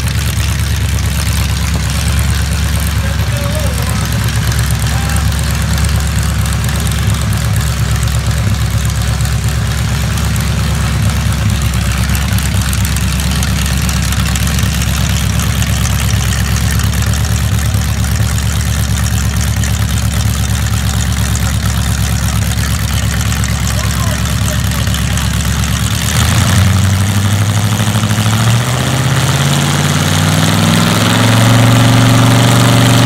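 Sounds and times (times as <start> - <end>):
boat engine idling: 0.0 - 28.3.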